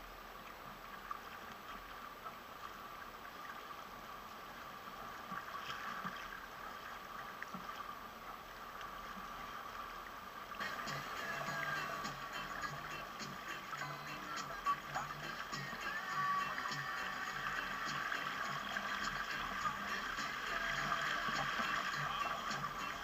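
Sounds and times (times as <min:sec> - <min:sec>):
water rushing along hull: 0:00.0 - 0:23.0
small water splashes: 0:00.3 - 0:23.0.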